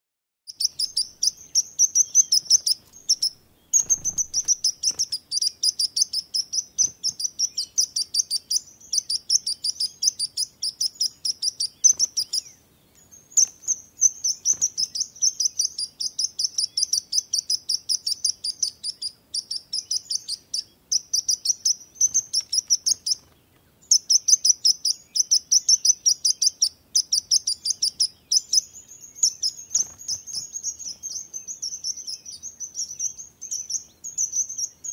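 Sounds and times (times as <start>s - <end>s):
sparrow chirping: 0.5s - 34.9s.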